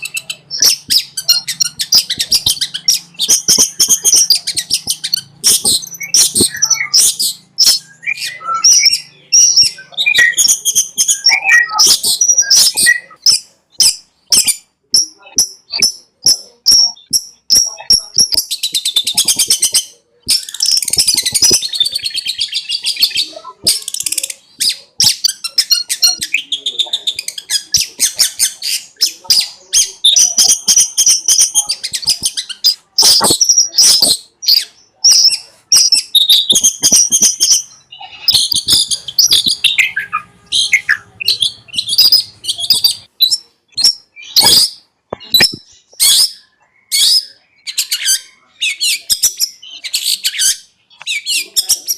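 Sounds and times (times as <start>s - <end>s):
shrike singing fast chirps and trills: 0.0s - 51.9s.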